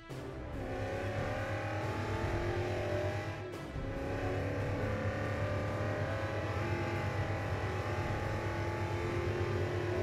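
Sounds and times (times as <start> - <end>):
race car engine running: 0.4 - 10.0.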